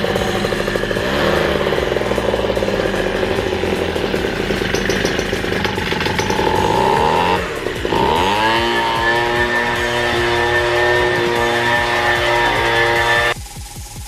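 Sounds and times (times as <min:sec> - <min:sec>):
leaf blower engine revving: 0:00.0 - 0:13.4.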